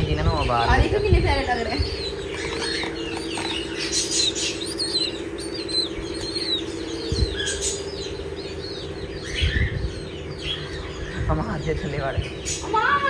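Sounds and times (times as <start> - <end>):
parrots chirping and squeaking: 0.0 - 13.0
steady low hum: 0.0 - 13.0.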